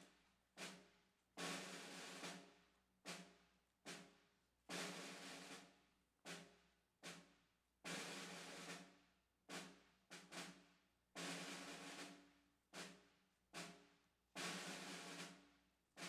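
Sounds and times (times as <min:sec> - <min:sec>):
snare drum marching cadence: 0:00.6 - 0:07.3, 0:07.9 - 0:10.6, 0:11.2 - 0:16.0.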